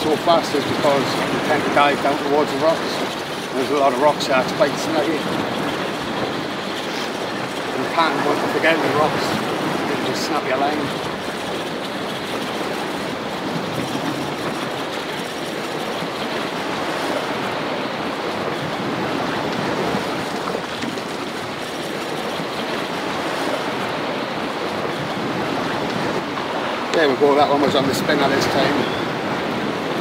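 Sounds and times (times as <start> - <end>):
sea washing against rocks: 0.0 - 30.0.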